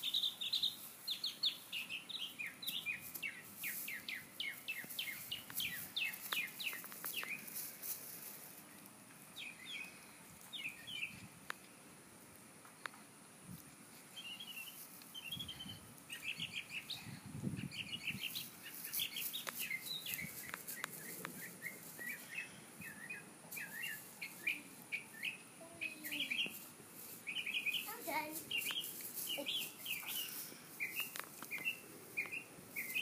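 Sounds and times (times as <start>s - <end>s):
small birds chirping: 0.0s - 11.8s, 14.0s - 33.0s.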